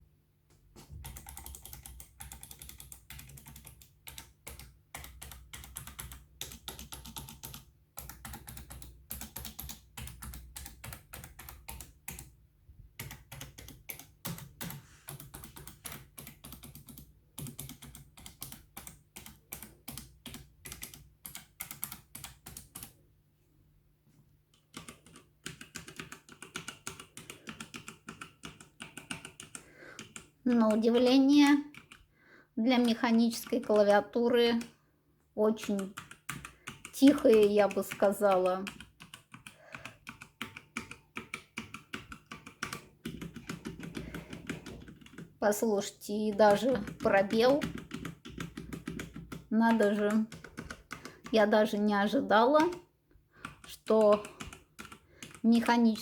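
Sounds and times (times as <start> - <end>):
typing on mechanical keyboard: 0.8 - 23.0, 24.6 - 32.1, 32.8 - 34.7, 35.6 - 45.4, 46.1 - 56.0.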